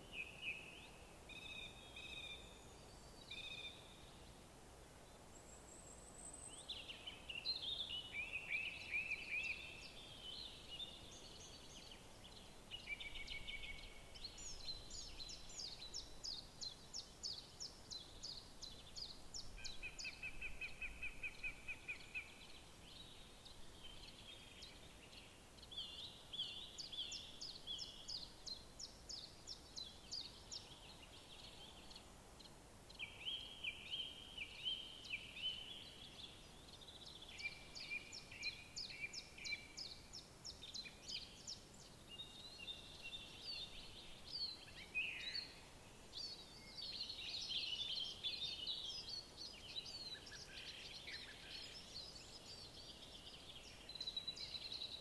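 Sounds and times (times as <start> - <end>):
songbirds singing: 0.0 - 4.4, 5.0 - 55.0
faint background hiss: 0.0 - 55.0.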